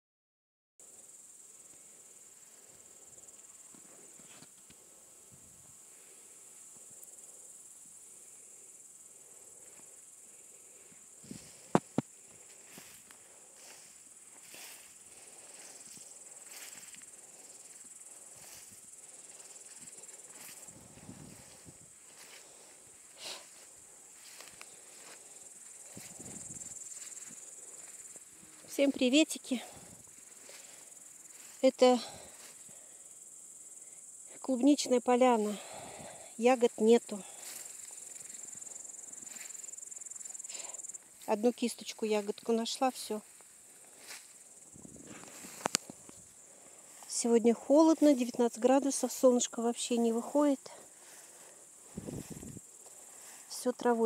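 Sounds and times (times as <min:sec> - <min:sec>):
grasshoppers chirping: 0:00.8 - 0:54.0.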